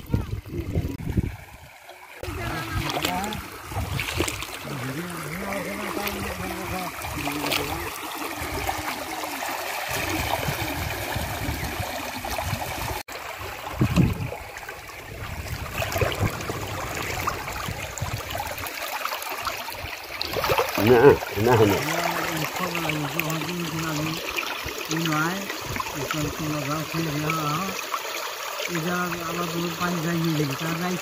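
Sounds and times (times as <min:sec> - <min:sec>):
people wading and splashing: 0:00.0 - 0:31.0
water rushing through fence: 0:00.0 - 0:31.0.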